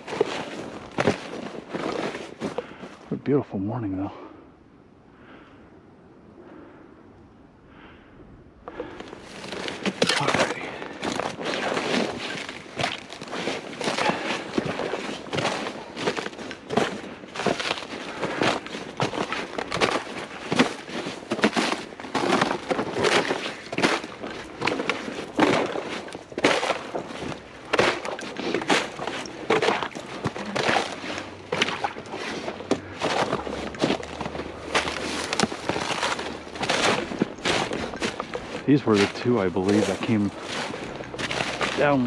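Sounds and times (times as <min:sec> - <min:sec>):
footsteps on rough swamp ground: 0:00.0 - 0:03.3, 0:08.6 - 0:42.0.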